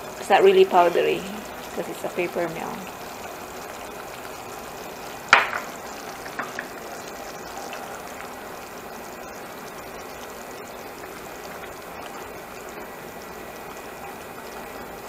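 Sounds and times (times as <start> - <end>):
sauce bubbling in a pan: 0.0 - 15.0.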